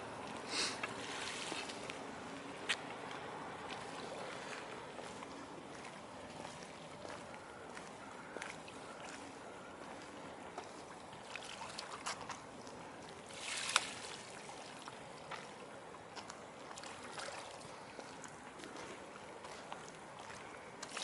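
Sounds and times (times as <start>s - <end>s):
water lapping against quay wall: 0.0s - 21.0s
water splashing: 0.3s - 2.0s, 3.1s - 7.5s, 8.1s - 21.0s.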